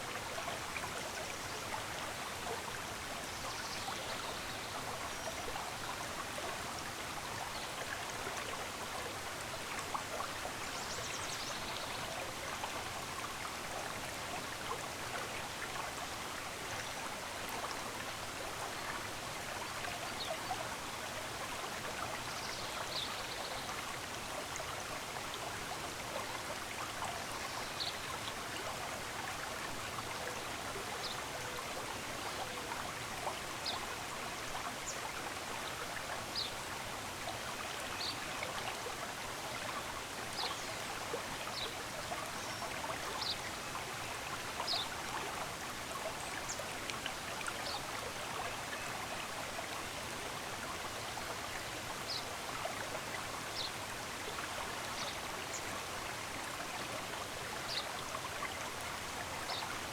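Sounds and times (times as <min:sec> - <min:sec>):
stream running water: 0:00.0 - 0:59.9.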